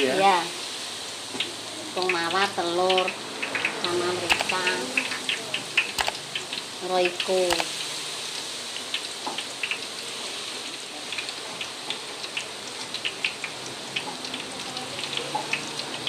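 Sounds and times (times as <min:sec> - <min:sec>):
leaves deep-frying in oil: 0:00.0 - 0:16.0
oil popping and crackling: 0:01.2 - 0:16.0.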